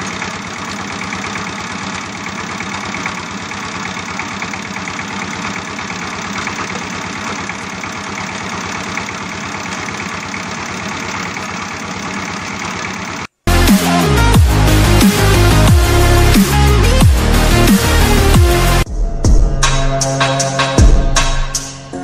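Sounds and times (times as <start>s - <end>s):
engine running with low knocking: 0.0s - 18.8s.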